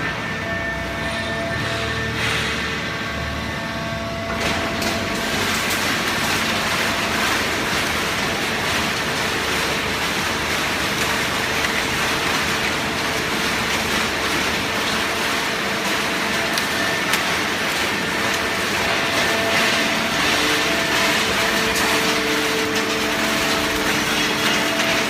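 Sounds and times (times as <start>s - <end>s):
hydraulic baler running: 0.0s - 25.0s.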